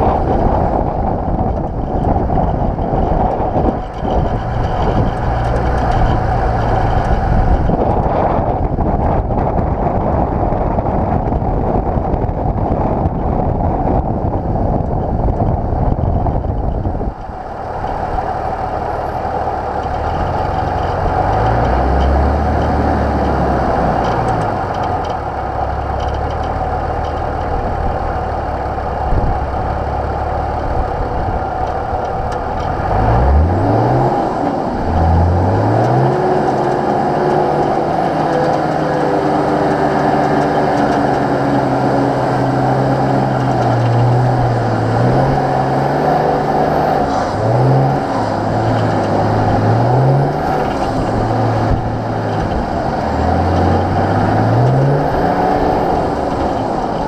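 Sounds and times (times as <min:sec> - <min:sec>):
diesel engine revving: 0:00.0 - 0:57.0
wind on microphone: 0:00.0 - 0:57.0.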